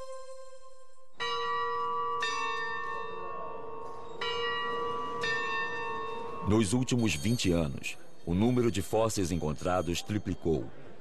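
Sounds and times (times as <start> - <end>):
large bell tolling: 1.2 - 10.1.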